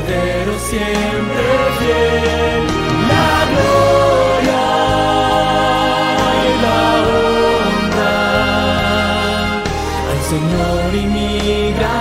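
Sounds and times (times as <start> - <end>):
mixed choir singing: 0.0 - 12.0
steady bass: 0.0 - 12.0.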